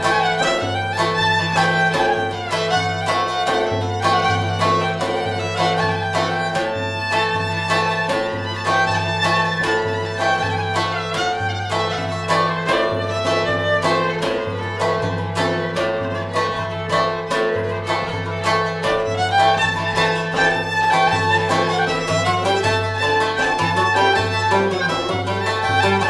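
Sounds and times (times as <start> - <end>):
bowed violin melody: 0.0 - 26.0
frame drum beat: 0.0 - 26.0
plucked lute: 0.0 - 26.0.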